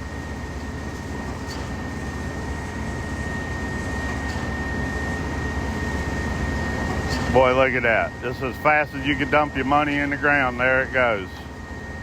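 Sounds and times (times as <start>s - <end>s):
diesel pump truck running: 0.0s - 12.0s
high-pitched whine: 0.0s - 12.0s.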